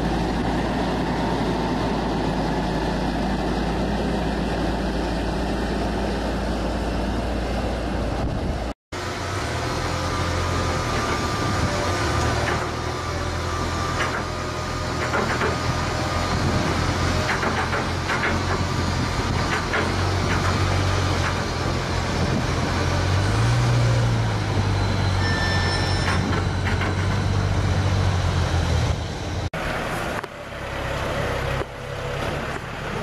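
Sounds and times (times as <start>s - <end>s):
loader engine running: 0.0s - 33.0s.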